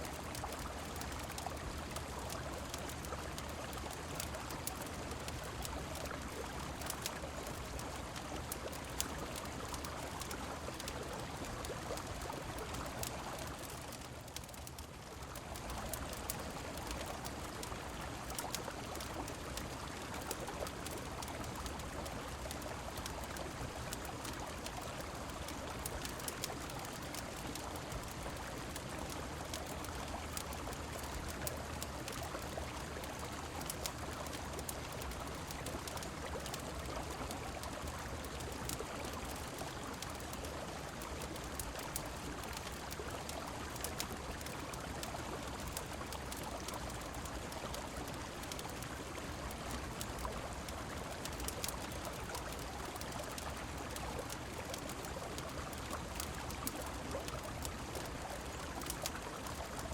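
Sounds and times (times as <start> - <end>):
rain falling: 0.0 - 59.9
river water running: 0.0 - 59.9
wood fire crackling: 0.2 - 59.8.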